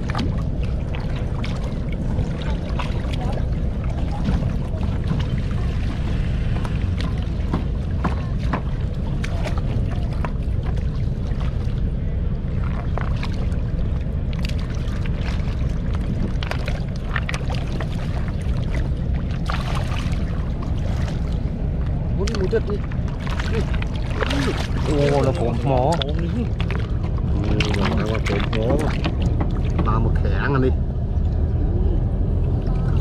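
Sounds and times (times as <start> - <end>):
boat engine rumble: 0.0 - 33.0
water splashing: 0.0 - 33.0.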